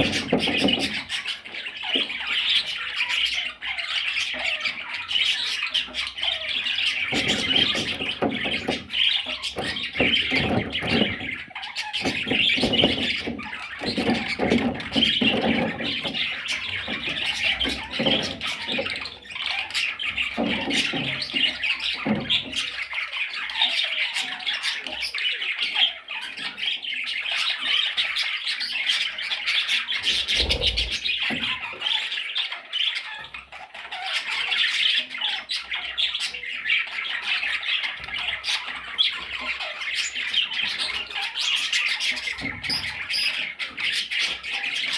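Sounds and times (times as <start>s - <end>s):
budgerigars chattering and squawking: 0.0s - 44.9s
lower-pitched bird sounds: 0.0s - 44.9s.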